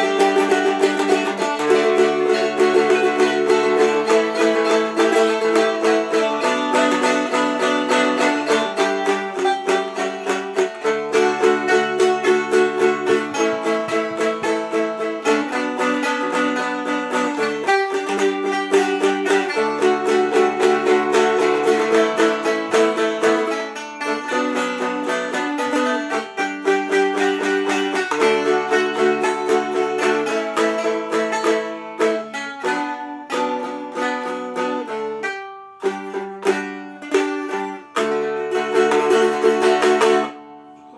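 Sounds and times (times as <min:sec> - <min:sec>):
dulcimers plucked: 0:00.0 - 0:40.9.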